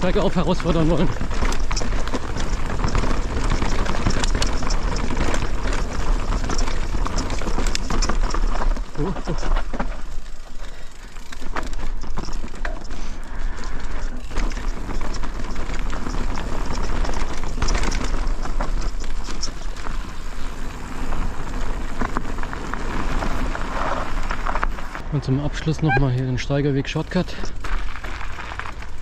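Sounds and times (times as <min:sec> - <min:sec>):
bike rattling over bumps: 0:00.0 - 0:29.0
bike tyres crunching over dirt: 0:00.0 - 0:29.0.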